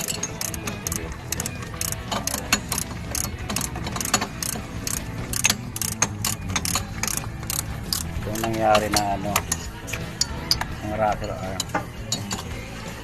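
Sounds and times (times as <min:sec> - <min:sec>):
metallic clicks of hand tools: 0:00.0 - 0:12.6.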